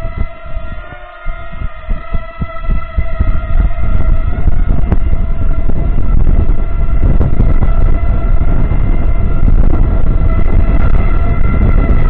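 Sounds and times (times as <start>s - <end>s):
drone propellers whining: 0.0s - 12.0s
low rumble: 0.0s - 12.0s.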